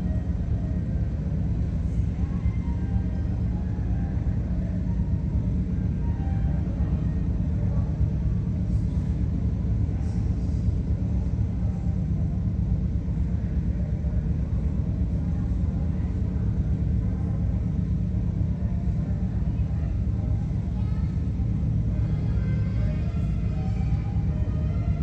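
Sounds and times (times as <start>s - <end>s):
radial piston engines running: 0.0s - 25.0s.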